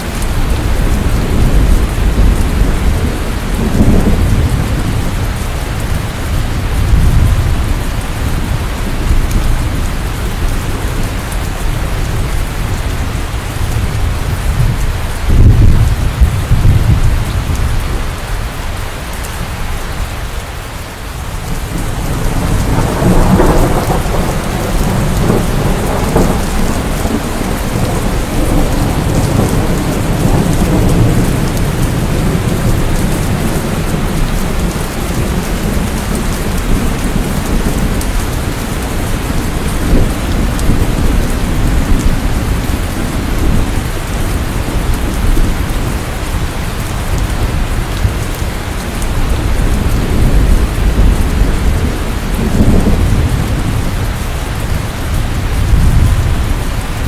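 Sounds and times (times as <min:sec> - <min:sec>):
rolling thunder: 0:00.0 - 0:18.4, 0:21.5 - 0:57.0
heavy rain: 0:00.0 - 0:57.0.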